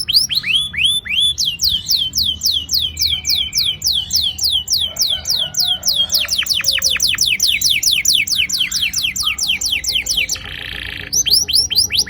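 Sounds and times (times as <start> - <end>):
canary buzzy rolling trill: 0.0 - 12.0
canary singing whistled notes: 0.0 - 12.0.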